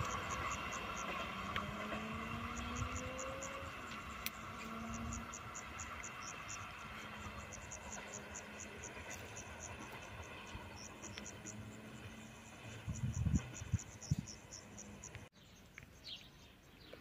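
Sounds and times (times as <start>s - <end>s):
faint background rumble: 0.0s - 15.3s
insects chirping: 0.0s - 17.0s.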